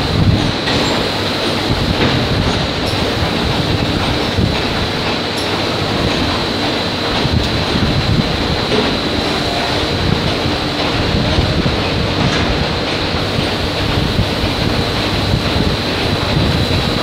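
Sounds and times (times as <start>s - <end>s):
continuous high whine: 0.0s - 17.0s
machinery churning rumble: 0.0s - 17.0s.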